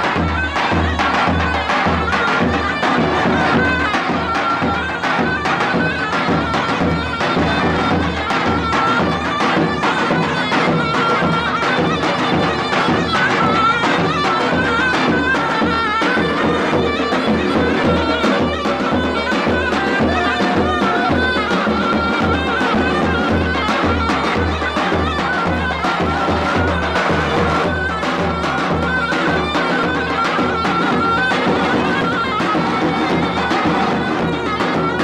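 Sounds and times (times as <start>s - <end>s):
shrill double-reed melody: 0.0s - 35.0s.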